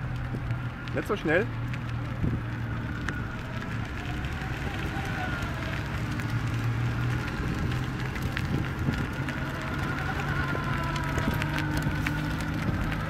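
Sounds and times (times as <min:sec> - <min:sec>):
electric car drivetrain whine: 0:00.0 - 0:13.0.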